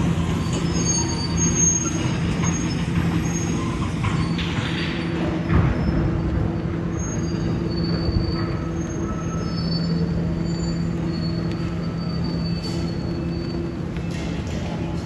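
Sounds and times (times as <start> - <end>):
demolition machinery engine drone: 0.0 - 15.0
high-pitched metal squeals: 0.1 - 13.9.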